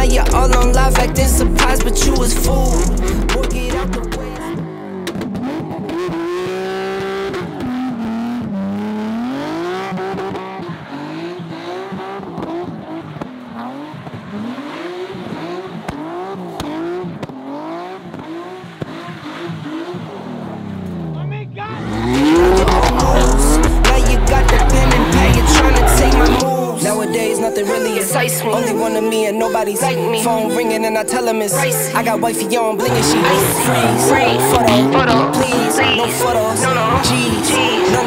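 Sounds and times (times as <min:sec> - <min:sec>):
car engine revving: 0:00.0 - 0:38.0
tires squealing: 0:00.0 - 0:38.0.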